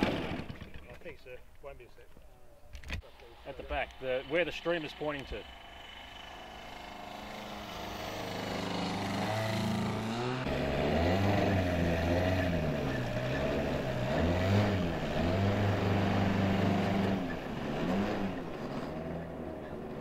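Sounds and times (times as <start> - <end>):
model plane engine and propeller: 3.0 - 20.0.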